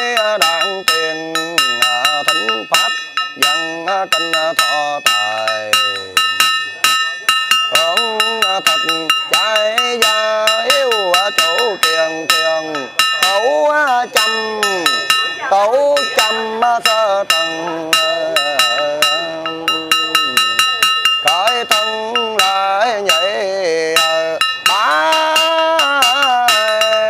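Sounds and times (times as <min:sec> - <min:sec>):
person chanting: 0:00.0 - 0:27.0
small metal bell struck: 0:00.0 - 0:27.0.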